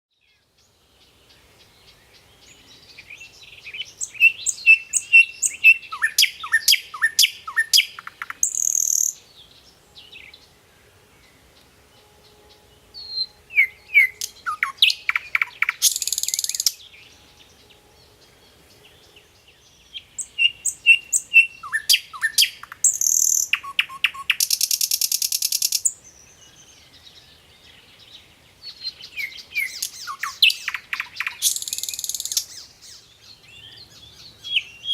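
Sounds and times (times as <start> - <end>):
songbird chirping: 0.1 - 34.9.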